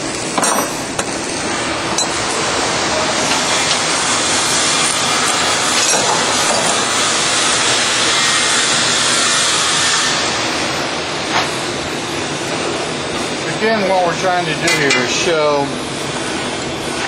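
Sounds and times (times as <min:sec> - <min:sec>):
loud mechanical noise: 0:00.0 - 0:17.0.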